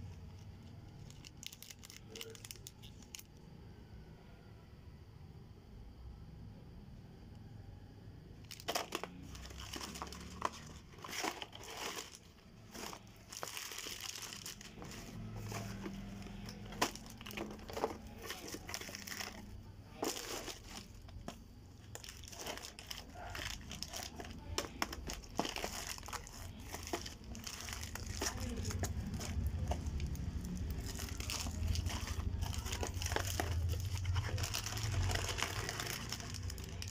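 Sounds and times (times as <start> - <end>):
plastic wrappers crinkling: 0.0 - 3.3, 8.4 - 36.9.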